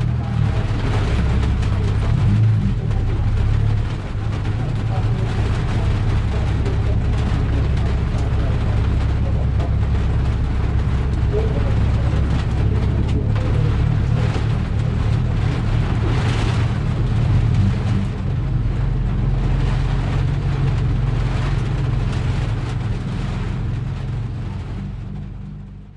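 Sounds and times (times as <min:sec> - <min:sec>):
car engine idling: 0:00.0 - 0:25.9
heavy rain hiss: 0:00.0 - 0:25.9.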